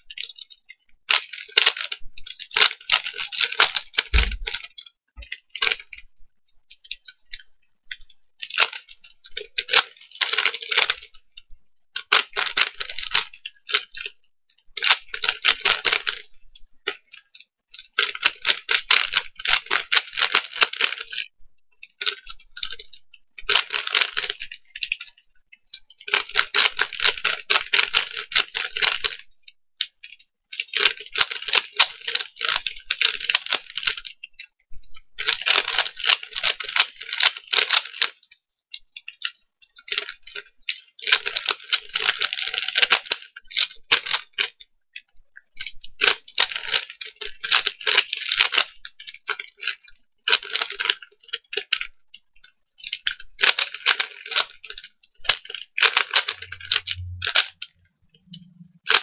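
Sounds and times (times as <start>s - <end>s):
puzzle cube clicking and rattling: 0.0s - 6.1s, 6.8s - 11.2s, 11.9s - 14.2s, 14.8s - 59.0s.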